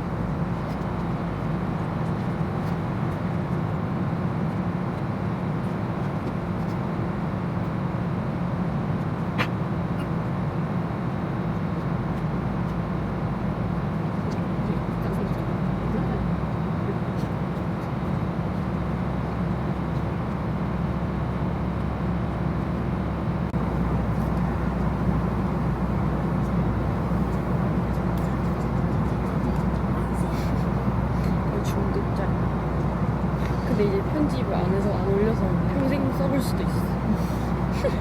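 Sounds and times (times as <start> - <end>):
vehicle rumbling: 0.0 - 38.0.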